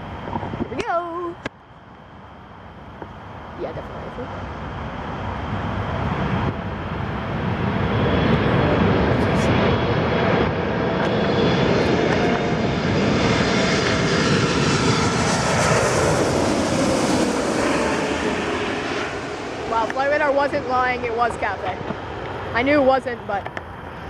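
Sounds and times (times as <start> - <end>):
jet engines rumbling flying past: 0.0 - 24.0.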